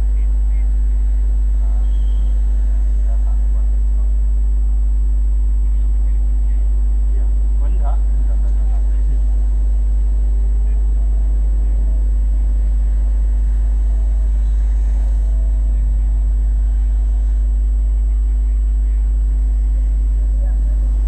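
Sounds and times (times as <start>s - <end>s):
low rumble of street traffic: 0.0s - 21.0s.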